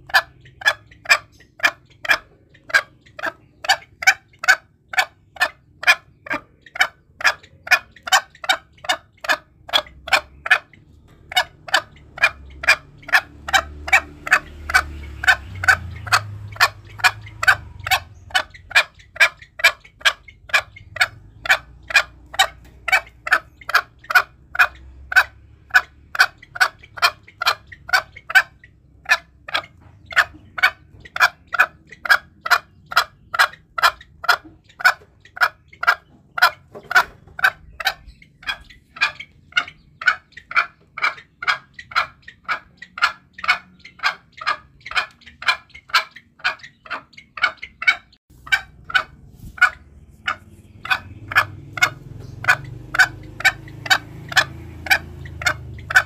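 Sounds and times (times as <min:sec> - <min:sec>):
junglefowl clucking calls: 0:00.0 - 0:56.0.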